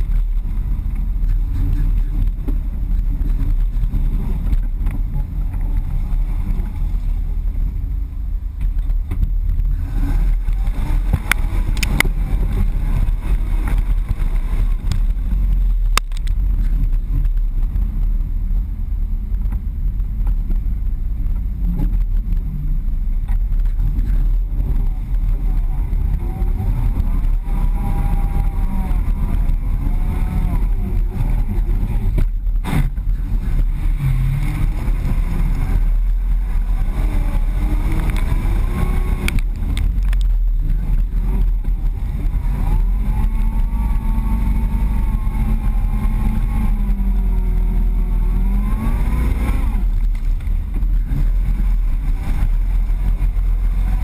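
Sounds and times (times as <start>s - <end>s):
truck engine rumbling: 0.0s - 54.0s.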